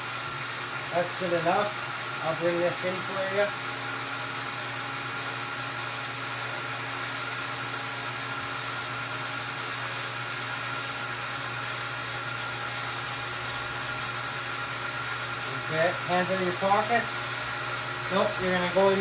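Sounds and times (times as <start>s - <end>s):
lathe motor and belt whirring: 0.0s - 19.0s.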